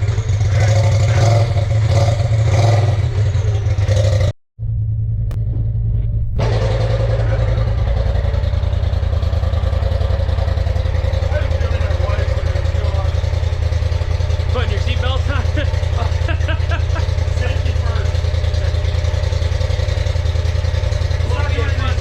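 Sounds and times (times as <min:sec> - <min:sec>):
engine running with pulsing: 0:00.0 - 0:22.0.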